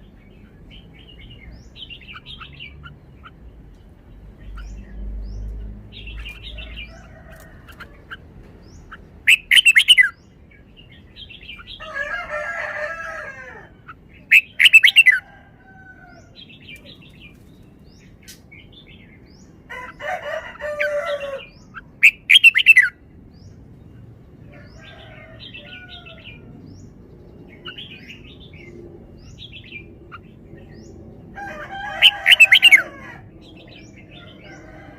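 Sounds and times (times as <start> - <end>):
quieter birdsong and calls: 0.0 - 34.9.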